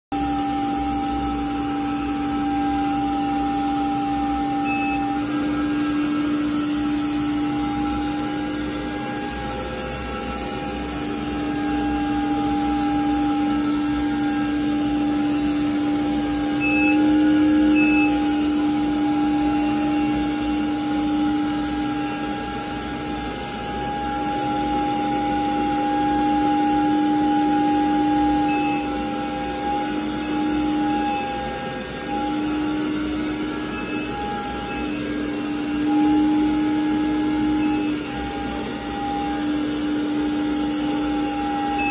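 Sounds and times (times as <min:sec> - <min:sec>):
suction fan motor droning: 0:00.1 - 0:41.9.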